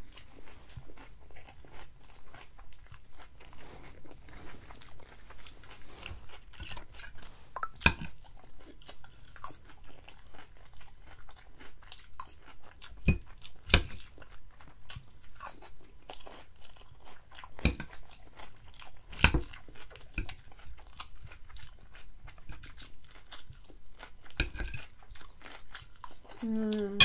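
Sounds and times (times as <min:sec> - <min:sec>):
chewing crisp lettuce: 0:00.0 - 0:27.0.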